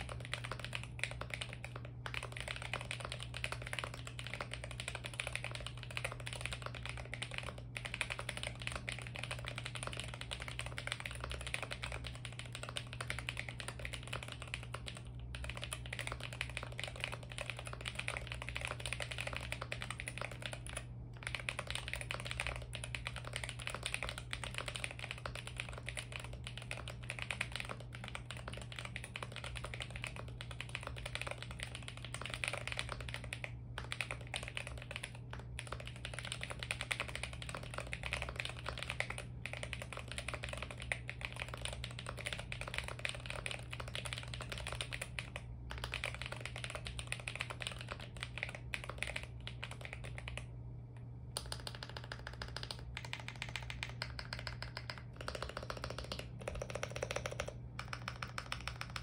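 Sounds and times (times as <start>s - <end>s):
fast mechanical keyboard typing: 0.0s - 50.5s, 51.3s - 59.0s.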